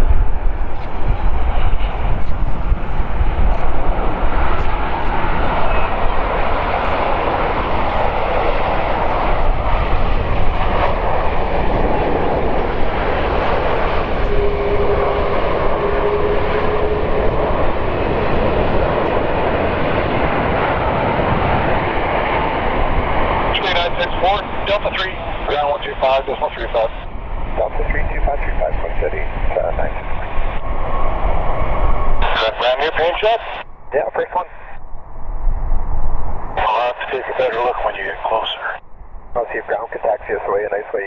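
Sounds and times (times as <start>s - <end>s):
loud jet engine noise: 0.0s - 41.0s.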